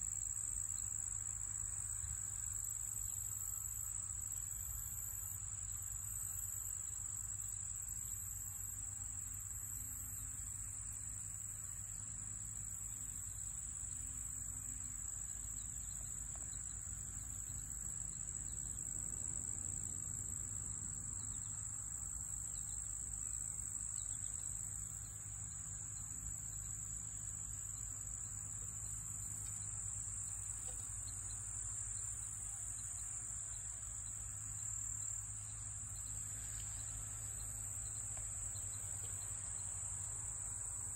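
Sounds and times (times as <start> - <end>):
insects trilling: 0.1 - 40.9.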